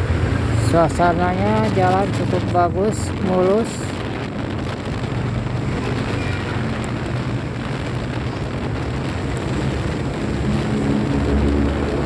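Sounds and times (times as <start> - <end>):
road and wind noise: 0.0 - 12.0
vehicle engine drone: 0.0 - 12.0.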